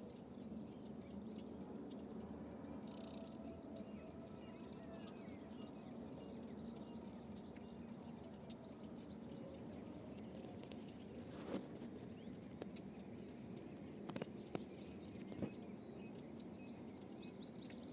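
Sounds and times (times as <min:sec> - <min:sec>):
low background noise: 0:00.0 - 0:17.9
small birds chirping: 0:00.0 - 0:17.9.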